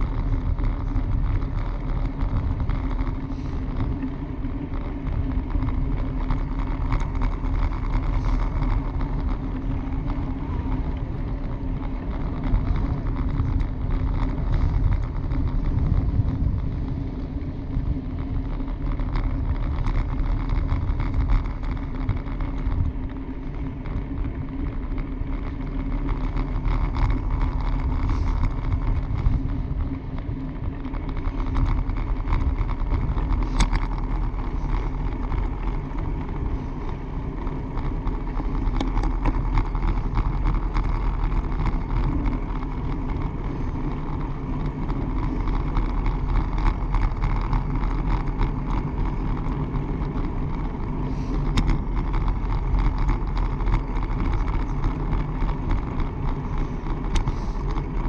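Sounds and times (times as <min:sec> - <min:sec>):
bicycle click: 0:00.0 - 0:58.0
bicycle rumbling and rattling: 0:00.0 - 0:58.0.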